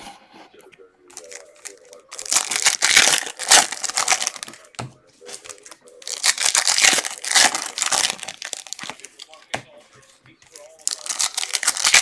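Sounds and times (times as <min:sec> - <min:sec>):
cards and plastic wrapping rustling: 0:00.0 - 0:12.0.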